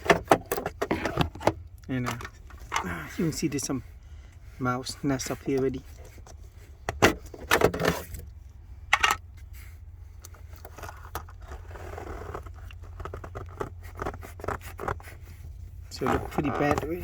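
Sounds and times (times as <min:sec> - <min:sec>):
hands rustling in filter housing: 0:00.0 - 0:17.0.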